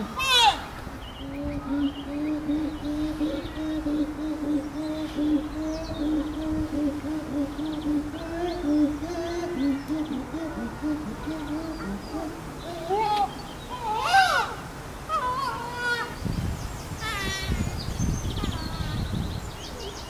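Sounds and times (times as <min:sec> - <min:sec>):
chimpanzee hooting: 0:00.0 - 0:16.1.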